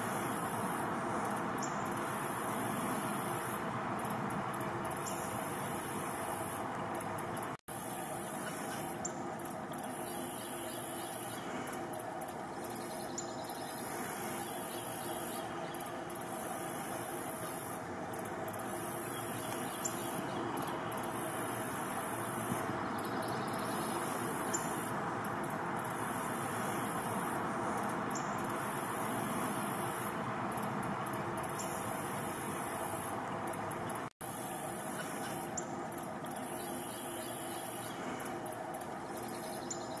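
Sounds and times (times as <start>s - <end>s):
rushing noise with high hiss: 0.0s - 6.8s, 7.4s - 39.6s.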